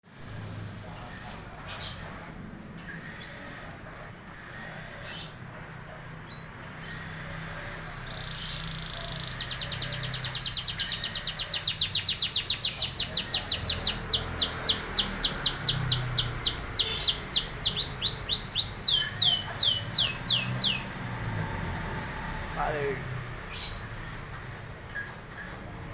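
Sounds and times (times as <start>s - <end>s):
canary singing: 0.9s - 25.9s.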